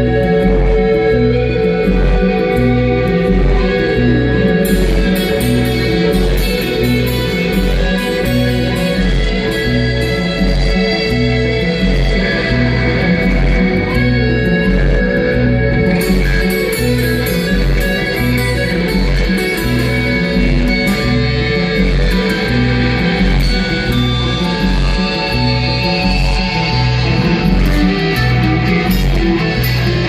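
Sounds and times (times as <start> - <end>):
guitar: 0.0 - 30.0
repeating bass line: 0.0 - 30.0.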